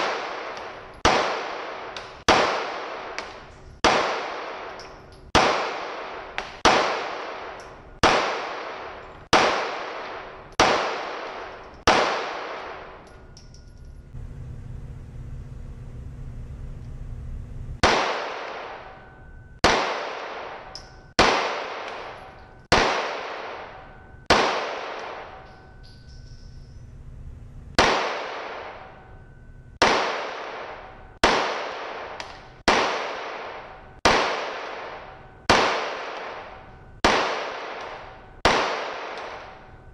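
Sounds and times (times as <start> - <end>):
handgun shots echoing: 0.0 - 14.0, 17.8 - 26.8, 27.8 - 29.1, 29.8 - 39.8.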